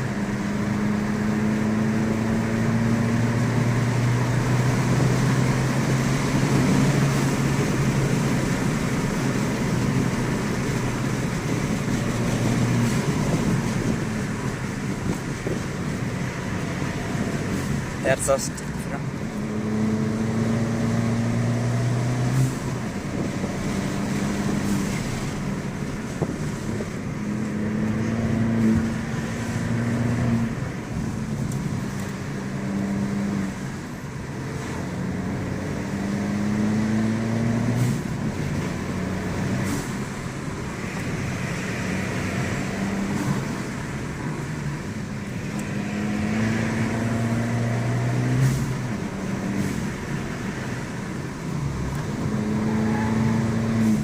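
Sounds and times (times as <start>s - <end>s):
car engine accelerating hard: 0.0s - 54.0s.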